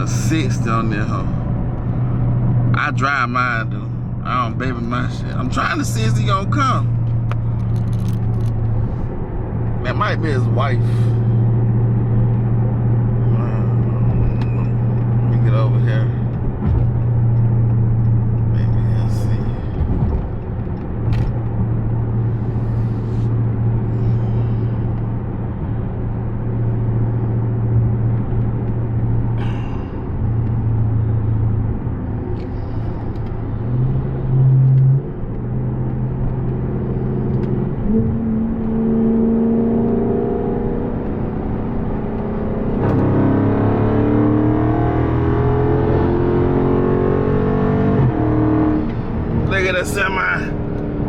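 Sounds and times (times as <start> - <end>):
car engine droning and accelerating: 0.0 - 51.0.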